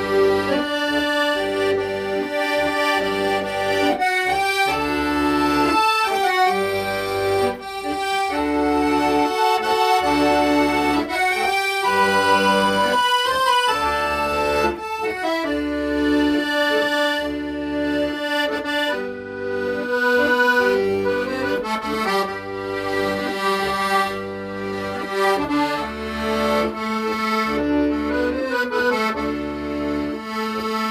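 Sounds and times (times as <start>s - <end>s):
solo accordion ballad: 0.0s - 30.9s.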